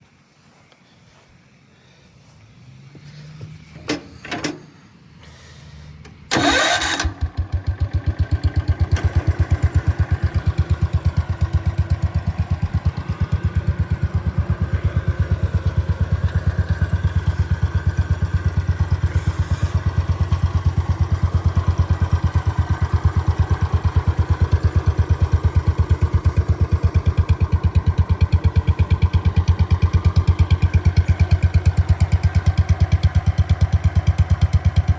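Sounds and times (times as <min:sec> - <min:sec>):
tractor engine running: 0:02.8 - 0:34.9
engine cranking: 0:06.0 - 0:34.9.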